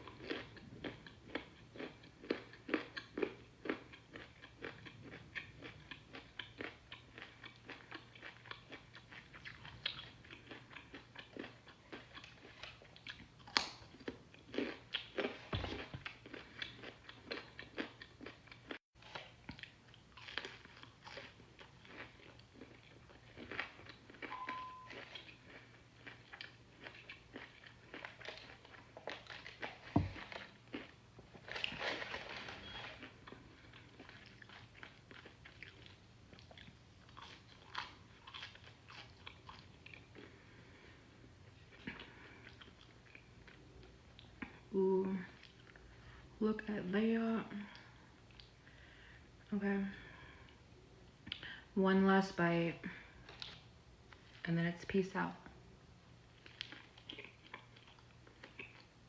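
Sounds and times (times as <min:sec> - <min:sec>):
chewing crunchy food: 0:00.0 - 0:46.8, 0:47.5 - 0:49.0, 0:52.9 - 0:54.4, 0:55.4 - 0:59.0.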